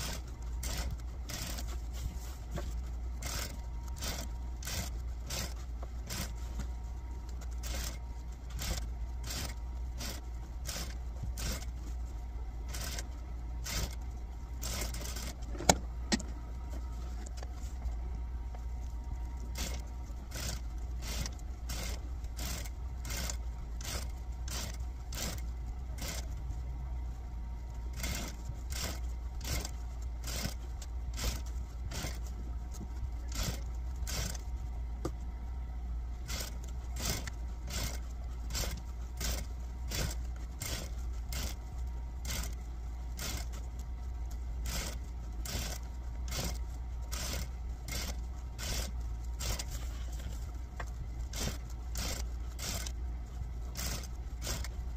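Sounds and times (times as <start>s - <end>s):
sewing machine motor hum: 0.0s - 54.9s.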